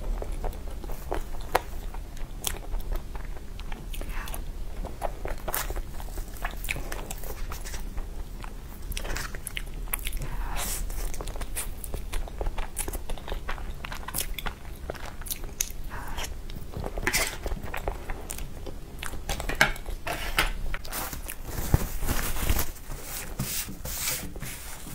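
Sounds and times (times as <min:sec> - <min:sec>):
eating with chewing: 0:00.0 - 0:24.9.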